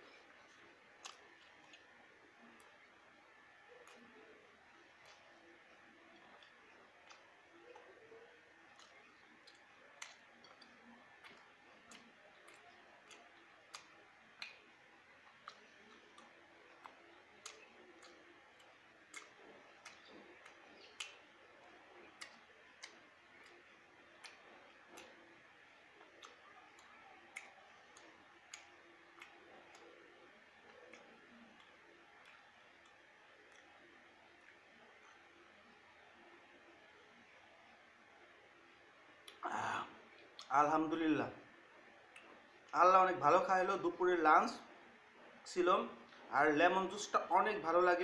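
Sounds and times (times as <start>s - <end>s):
mouth clicks and smacks chewing: 0.0s - 40.7s, 41.5s - 43.0s.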